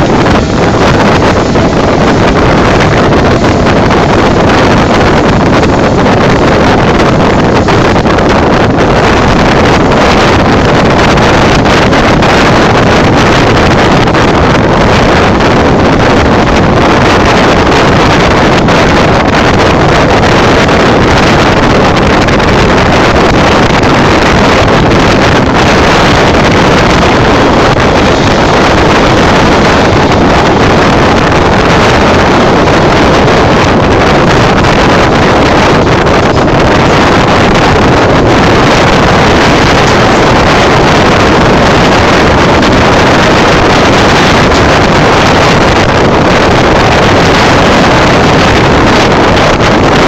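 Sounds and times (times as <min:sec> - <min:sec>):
train rushing at speed: 0:00.0 - 0:50.0
wind buffeting microphone: 0:00.0 - 0:50.0.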